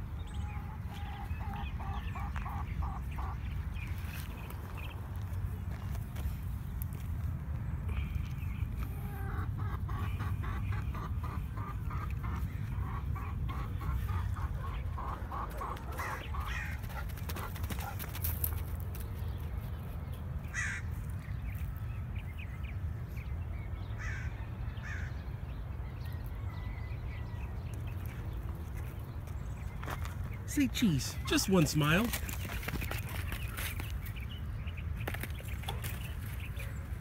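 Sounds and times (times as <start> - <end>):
birds calling: 0.0 - 7.1, 7.8 - 37.0.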